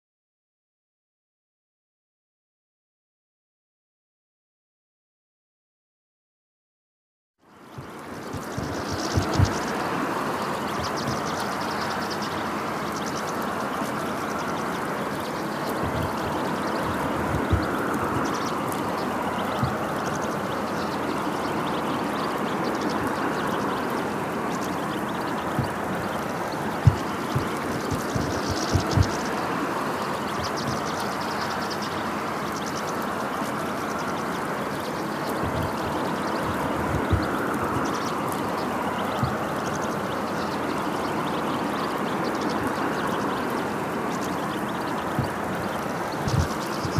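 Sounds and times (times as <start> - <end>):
finches twittering: 7.5 - 46.9
steady rushing noise: 7.6 - 46.9.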